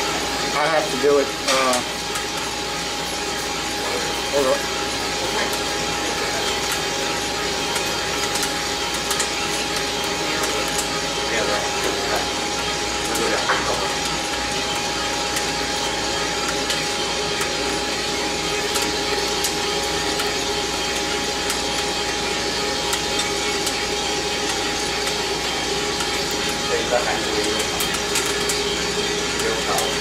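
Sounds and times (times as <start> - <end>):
coffee roaster fan whoosh and hum: 0.0 - 30.0.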